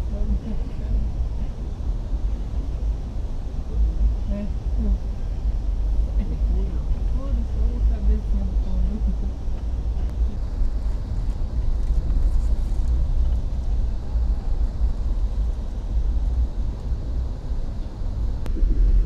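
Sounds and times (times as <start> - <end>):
vehicle rumble from inside: 0.0 - 19.0.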